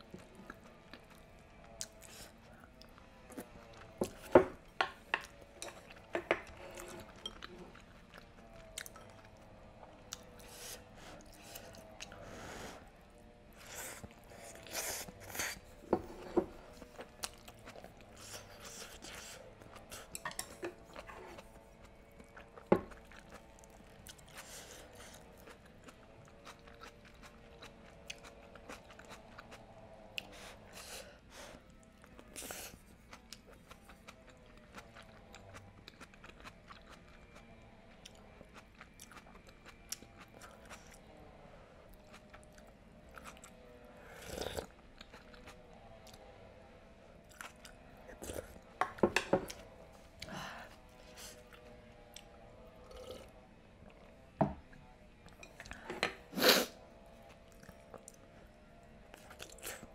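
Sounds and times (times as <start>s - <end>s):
person chewing food: 0.0s - 41.2s, 41.9s - 46.3s, 47.2s - 59.9s.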